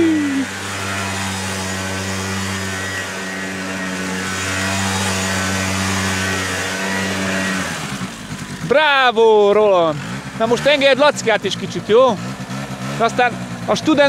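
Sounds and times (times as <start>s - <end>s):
small quad engine running: 0.0s - 14.0s.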